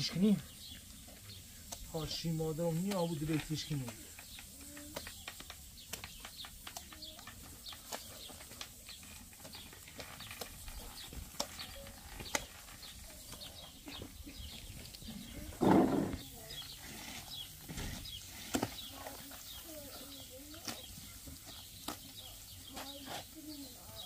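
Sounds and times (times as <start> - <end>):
small birds chirping: 0.0 - 24.0
faint clicks and scrapes: 0.5 - 24.0.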